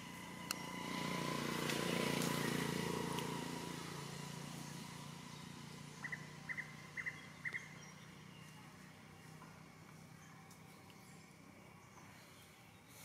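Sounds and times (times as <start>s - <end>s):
motor vehicle running: 0.0s - 12.8s.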